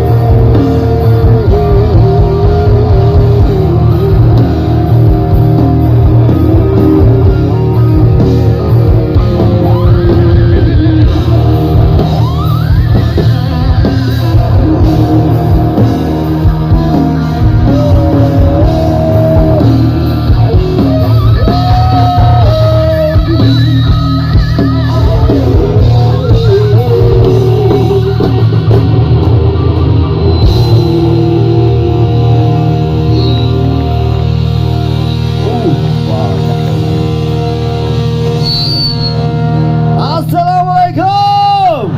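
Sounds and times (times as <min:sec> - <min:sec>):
drum kit: 0:00.0 - 0:41.9
electric guitar: 0:00.0 - 0:41.9
heavy bass: 0:00.0 - 0:41.9
wavering melodic lead line: 0:00.0 - 0:41.9.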